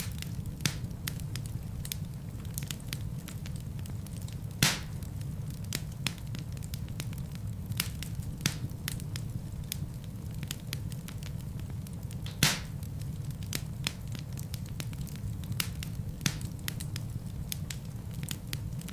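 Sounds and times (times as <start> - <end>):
burning logs crackling and popping: 0.0 - 18.9
fire flames rumbling: 0.0 - 18.9.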